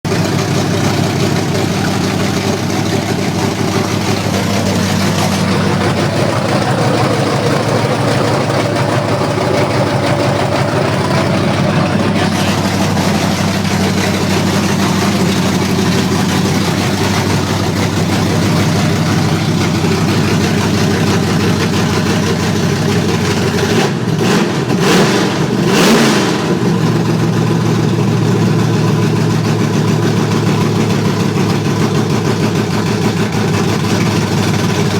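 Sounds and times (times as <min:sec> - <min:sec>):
car engine idling: 0:00.0 - 0:34.9
engine throttle blip: 0:00.1 - 0:34.9.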